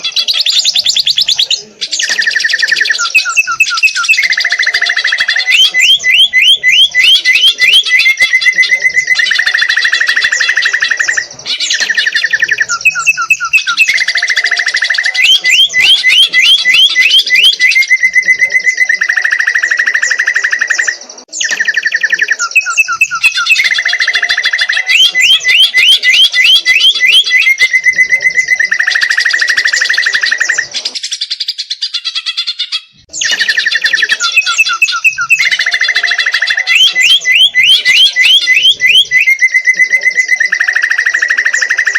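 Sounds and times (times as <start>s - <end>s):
bird singing chirps and trills: 0.0s - 41.9s.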